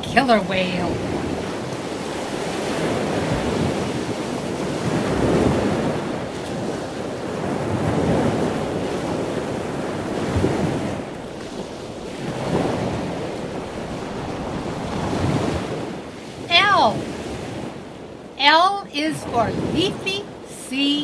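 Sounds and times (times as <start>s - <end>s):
water rushing like surf: 0.0s - 21.0s.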